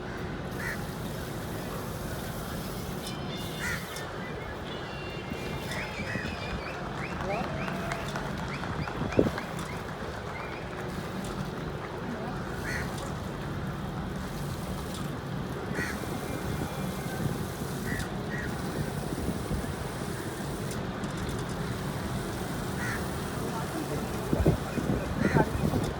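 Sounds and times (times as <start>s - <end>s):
faint distant voices: 0.0s - 25.9s.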